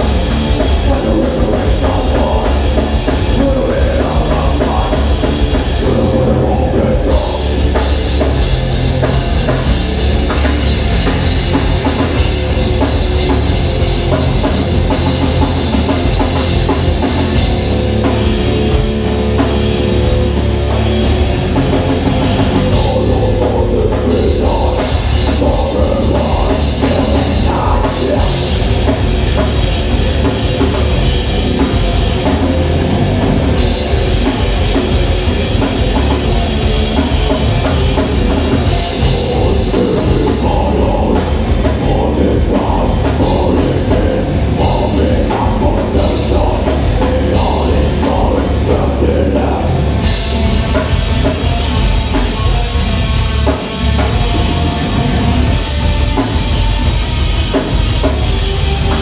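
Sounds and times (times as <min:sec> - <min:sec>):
bass guitar: 0:00.0 - 0:59.0
distorted electric guitars: 0:00.0 - 0:59.0
drum kit: 0:00.0 - 0:59.0.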